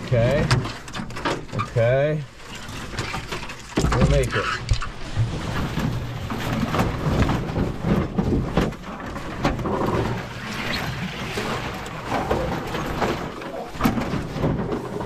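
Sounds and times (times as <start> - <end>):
branches scraping: 0.0 - 15.0.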